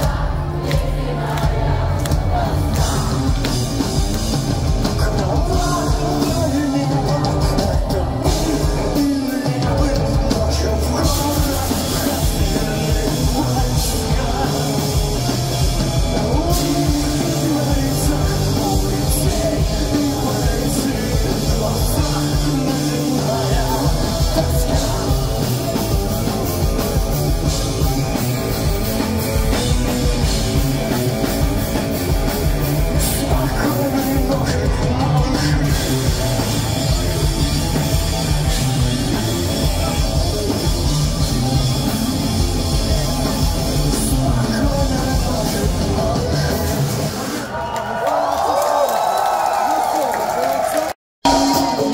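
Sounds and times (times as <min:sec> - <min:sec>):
bass guitar: 0:00.0 - 0:47.4, 0:51.2 - 0:51.9
drum kit: 0:00.0 - 0:47.5, 0:51.2 - 0:51.9
distorted electric guitars: 0:00.0 - 0:47.6, 0:51.2 - 0:51.9.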